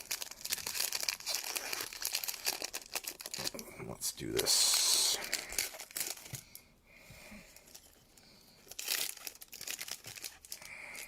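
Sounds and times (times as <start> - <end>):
plastic wrapping crinkling and tearing: 0.0 - 3.6, 4.2 - 6.6, 7.5 - 11.0.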